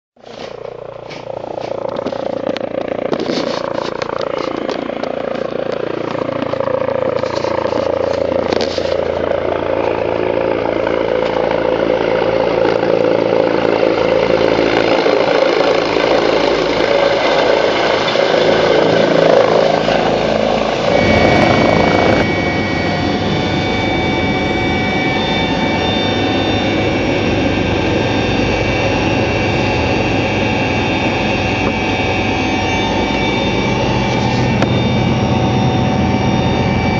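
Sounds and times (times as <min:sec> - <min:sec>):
helicopter engine and rotor: 0:00.2 - 0:36.9
high turbine whine: 0:00.2 - 0:36.9.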